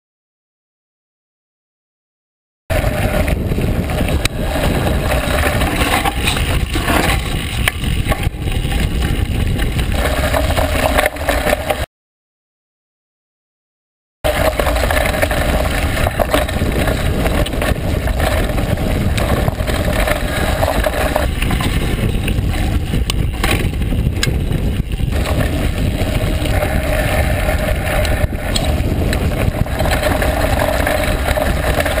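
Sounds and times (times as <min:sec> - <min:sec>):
bike knocks and rattles: 0:02.7 - 0:11.9, 0:14.3 - 0:32.0
tyres rolling over dirt and stones: 0:02.7 - 0:11.9, 0:14.3 - 0:32.0
wind buffeting microphone: 0:02.7 - 0:11.9, 0:14.3 - 0:32.0.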